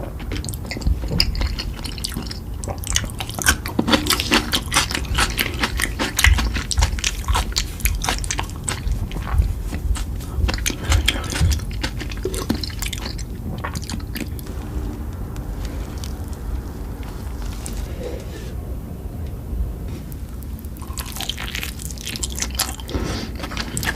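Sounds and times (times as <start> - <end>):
person chewing food: 0.0 - 18.2, 20.0 - 23.9.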